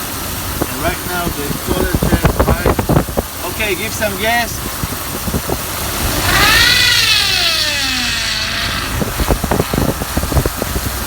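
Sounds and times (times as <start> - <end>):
engine running: 0.0 - 11.0
power steering pump whining: 0.0 - 11.0.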